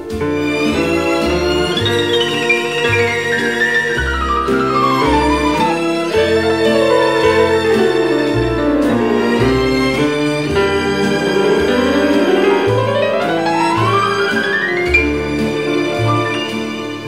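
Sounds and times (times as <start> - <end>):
steady bass: 0.0 - 16.6
piano: 0.0 - 17.0
violin: 0.0 - 17.0.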